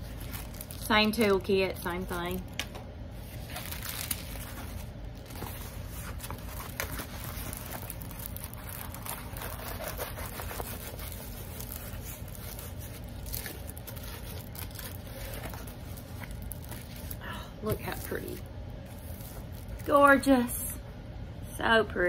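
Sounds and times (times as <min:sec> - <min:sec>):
plastic rustling and crinkling: 0:00.0 - 0:20.5.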